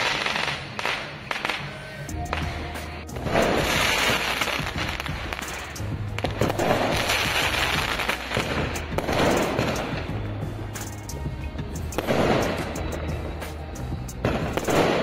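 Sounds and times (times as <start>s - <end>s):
firecrackers crackling: 0.0s - 15.0s
music: 0.0s - 15.0s.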